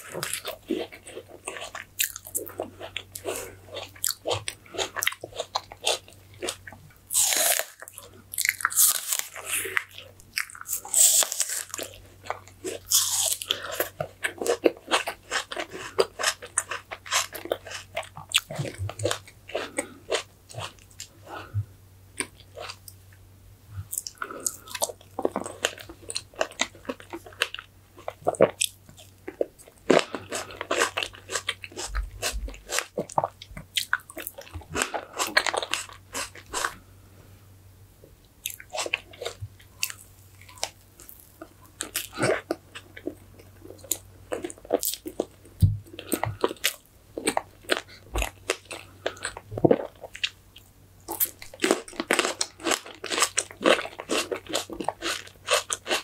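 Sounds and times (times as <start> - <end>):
chewing: 0.0 - 21.5, 23.8 - 36.8, 38.4 - 56.0.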